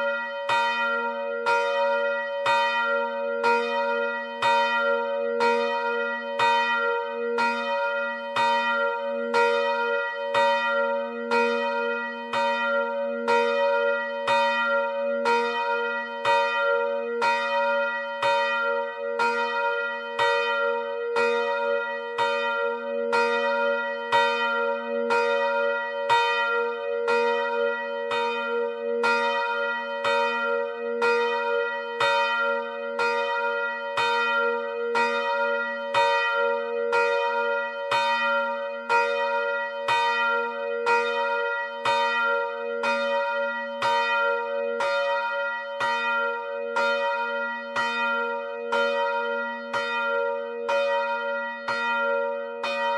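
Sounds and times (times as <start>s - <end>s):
church bell ringing: 0.0s - 52.9s.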